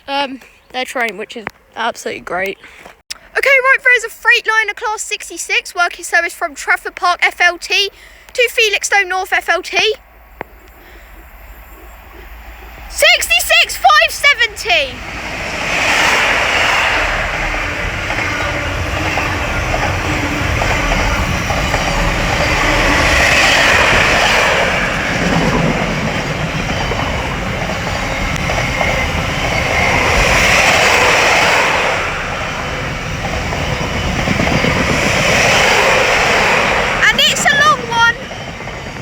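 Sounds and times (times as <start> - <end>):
freight train wheels on rails: 2.8 - 39.0.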